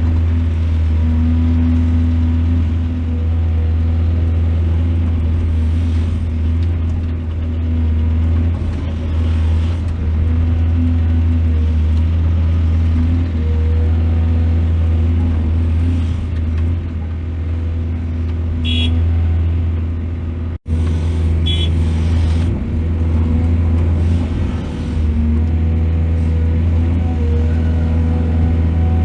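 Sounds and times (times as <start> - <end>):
excavator diesel engine droning: 0.0 - 29.0.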